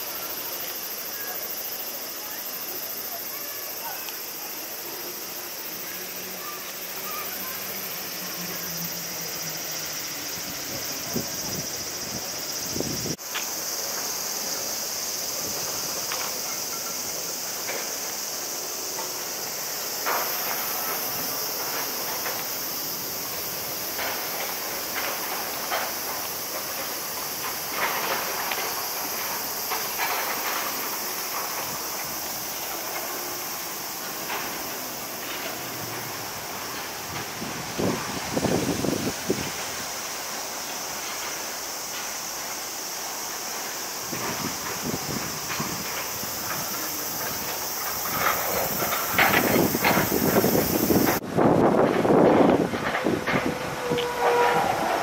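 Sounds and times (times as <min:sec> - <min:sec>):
high-pitched outdoor hiss: 0:00.0 - 0:55.0.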